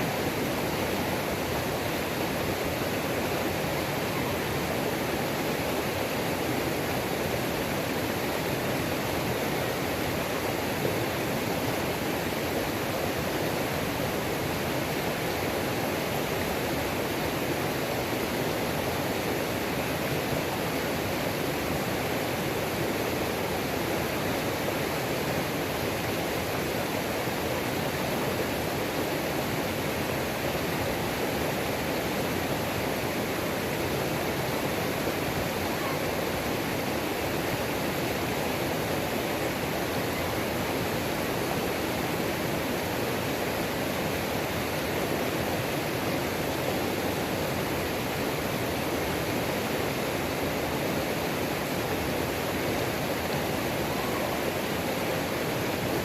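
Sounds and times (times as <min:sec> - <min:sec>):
waterfall rushing over rocks: 0:00.0 - 0:56.0.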